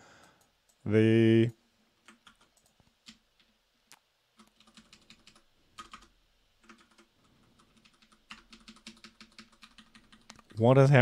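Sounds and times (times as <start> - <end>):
faint typing on keyboard: 0.2 - 0.9, 2.0 - 10.8.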